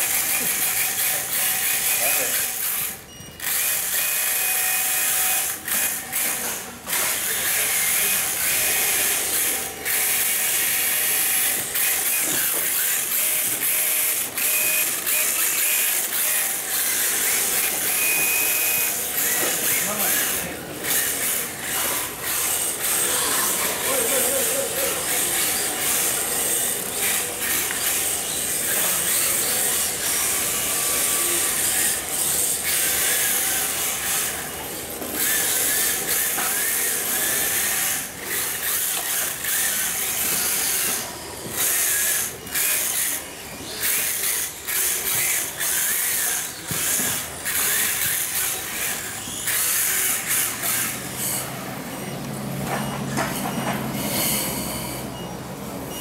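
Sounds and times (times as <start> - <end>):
rc car motor whine: 0.0 - 56.0.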